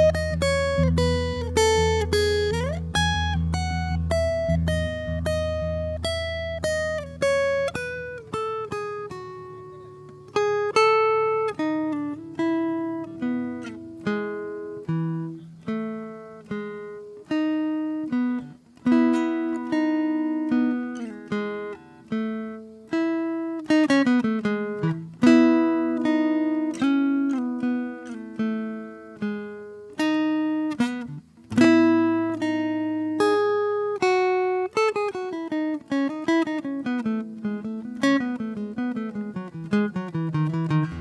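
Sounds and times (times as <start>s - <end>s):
fingerpicked acoustic guitar: 0.0s - 41.0s.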